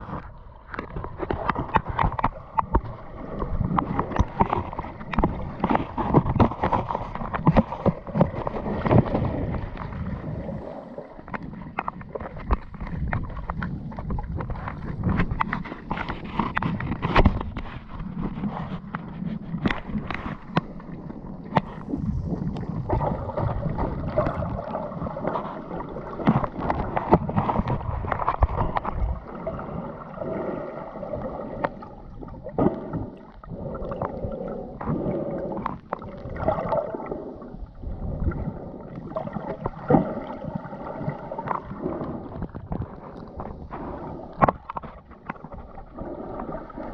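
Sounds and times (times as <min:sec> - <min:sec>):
gurgling water: 0:00.0 - 0:46.9
sea waves lapping and splashing: 0:00.0 - 0:46.9.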